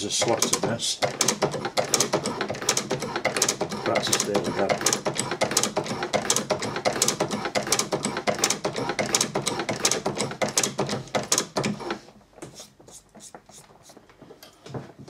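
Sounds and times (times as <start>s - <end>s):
hand shaper ram stroking: 0.0s - 14.0s.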